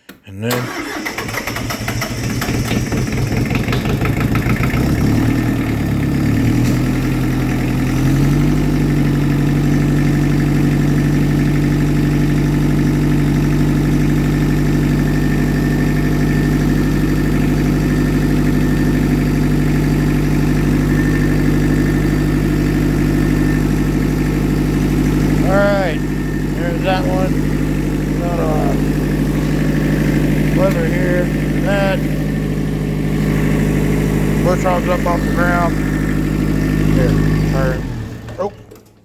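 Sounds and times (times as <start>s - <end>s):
diesel tractor engine idling: 0.5s - 39.0s.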